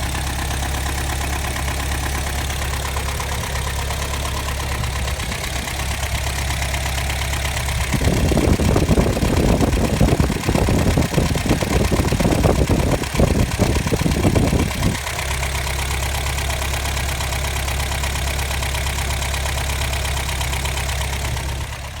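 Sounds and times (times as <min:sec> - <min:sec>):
car engine idling with ticking: 0:00.0 - 0:22.0.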